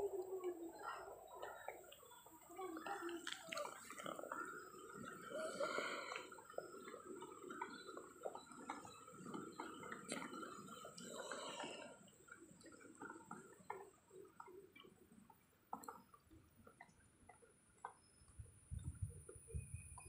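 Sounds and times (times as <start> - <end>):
small crackles: 0.0 - 20.0.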